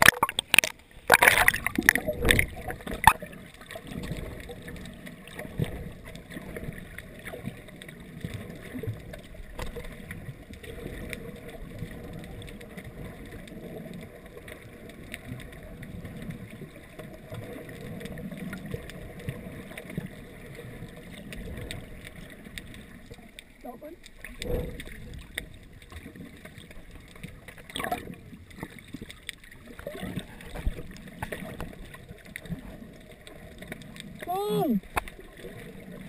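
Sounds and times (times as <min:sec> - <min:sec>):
muffled underwater rumble: 0:00.0 - 0:36.0.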